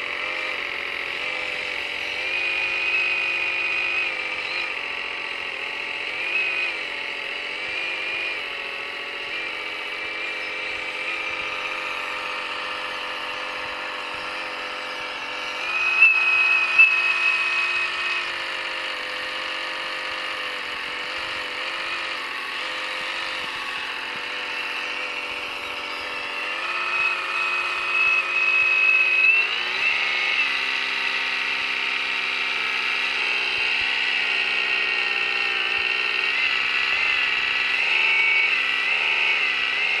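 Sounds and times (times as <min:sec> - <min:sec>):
small electric motors whining: 0:00.0 - 0:40.0.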